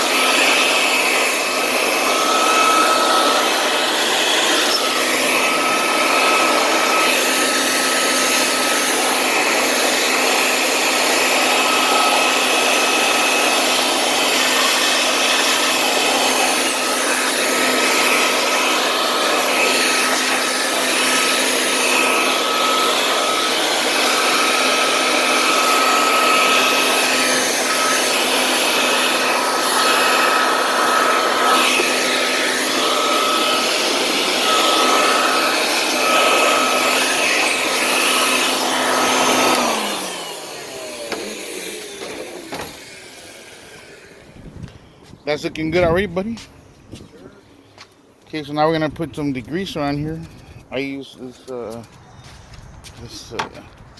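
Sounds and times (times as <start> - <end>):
small fan motor whining: 0.0 - 47.4.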